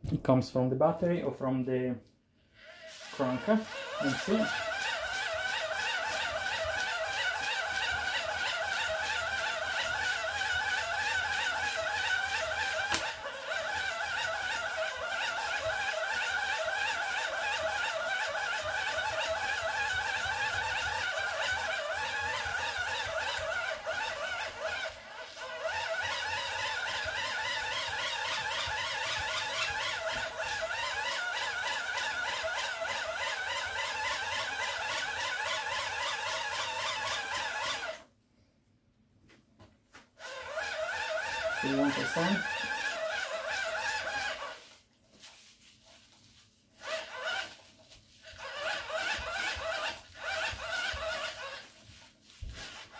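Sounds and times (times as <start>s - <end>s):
hand-crank dynamo gears whirring: 2.6s - 38.1s, 40.2s - 44.8s, 46.8s - 52.9s.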